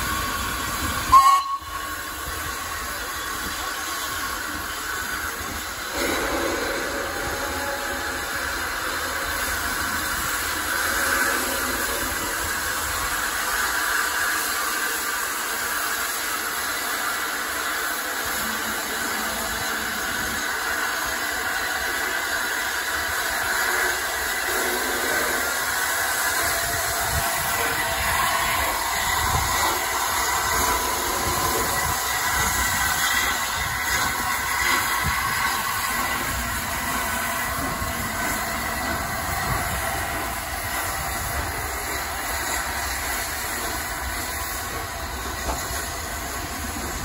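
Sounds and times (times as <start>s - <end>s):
hiss of escaping steam: 0.0s - 47.0s
steam locomotive rolling slowly: 0.0s - 47.0s.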